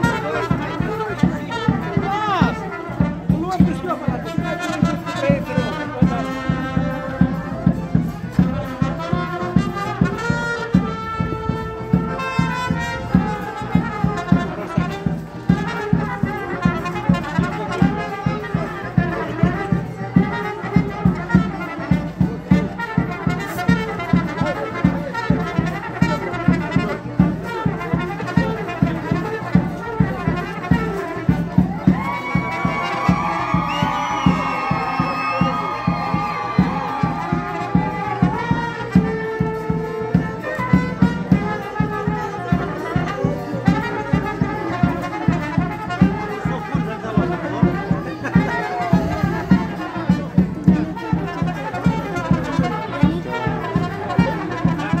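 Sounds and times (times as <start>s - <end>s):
brass band playing dance tune: 0.0s - 55.0s.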